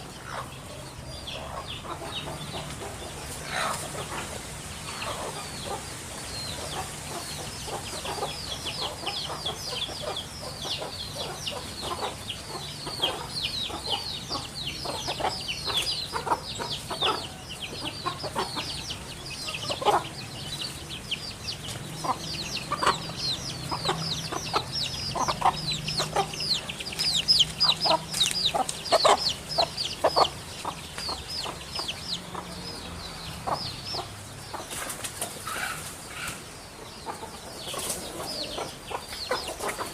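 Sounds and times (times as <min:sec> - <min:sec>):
high chirps of birds: 0:00.0 - 0:39.9.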